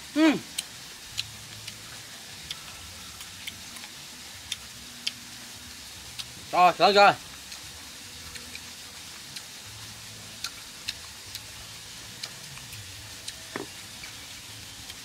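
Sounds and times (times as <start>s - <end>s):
low hiss: 0.0s - 15.0s
wet chewing clicks: 0.5s - 6.5s, 7.3s - 15.0s.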